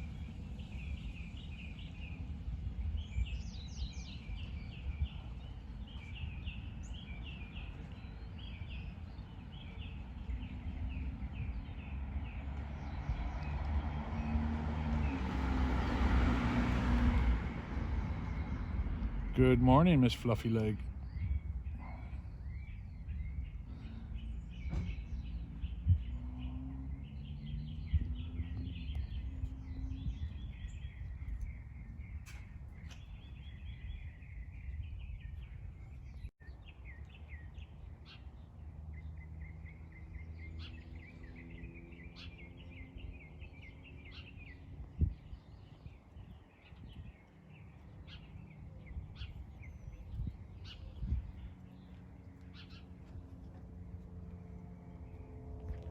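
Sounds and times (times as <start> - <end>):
small birds chirping: 0.0 - 16.0, 18.1 - 55.9.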